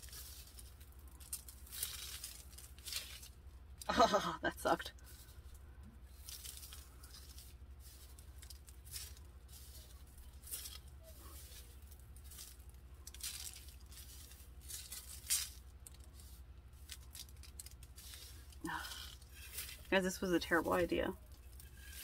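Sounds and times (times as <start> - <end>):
hands rustling and scraping: 0.0 - 3.9, 4.5 - 22.0
low hum: 0.0 - 22.0.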